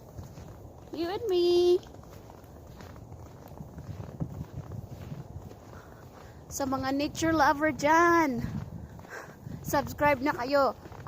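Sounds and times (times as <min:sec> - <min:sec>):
footsteps on snow: 0:00.0 - 0:11.0.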